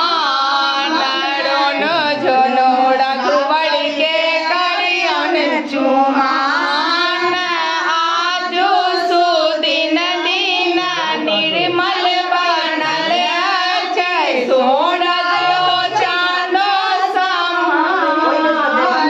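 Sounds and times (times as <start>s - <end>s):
women singing in unison: 0.0s - 19.0s.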